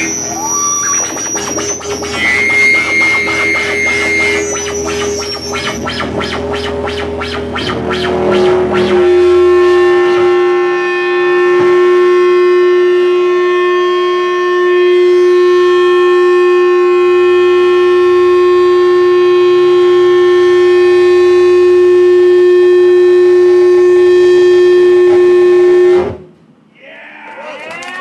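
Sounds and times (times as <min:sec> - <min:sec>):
loud electronic drone: 0:00.0 - 0:26.3.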